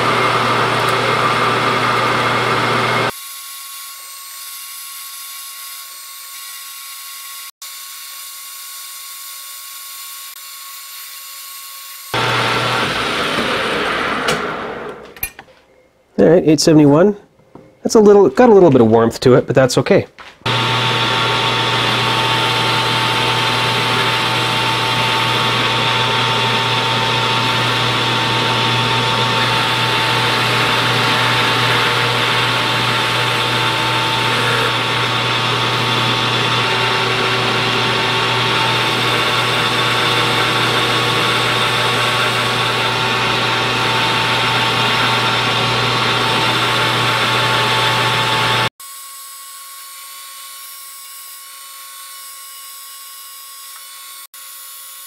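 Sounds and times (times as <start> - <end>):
metal lathe cutting: 0.0 - 15.1, 20.5 - 55.0.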